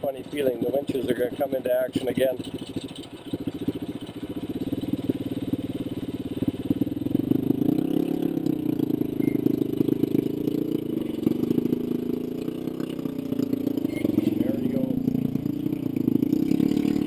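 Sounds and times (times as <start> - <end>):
single-cylinder engine running: 0.0 - 17.0.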